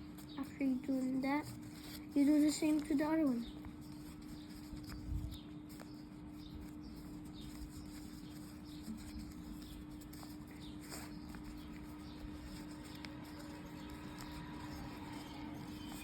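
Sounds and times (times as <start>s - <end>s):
paper creasing: 0.0s - 16.0s.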